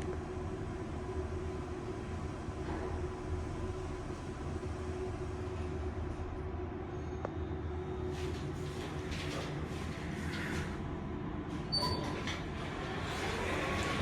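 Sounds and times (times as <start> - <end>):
lift machinery hum: 0.0 - 14.0.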